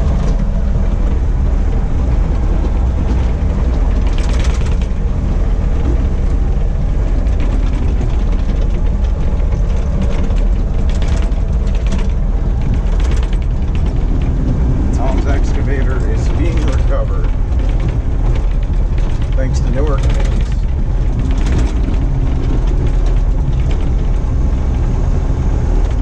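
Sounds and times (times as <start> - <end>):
truck engine idling: 0.0 - 26.0
brief clatters: 2.1 - 24.9.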